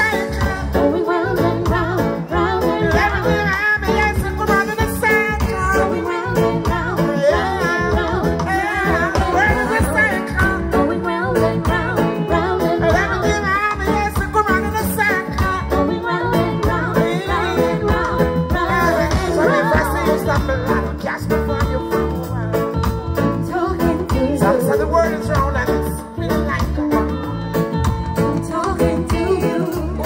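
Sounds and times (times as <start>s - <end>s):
man singing: 0.0s - 1.1s, 2.8s - 22.7s, 23.4s - 27.2s
heavy bass line: 0.0s - 30.0s
live reggae band: 0.0s - 30.0s.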